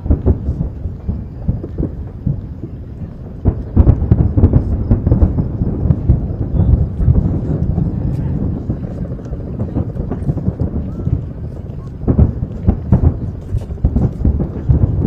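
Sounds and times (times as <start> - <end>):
fireworks booming: 0.0 - 15.0.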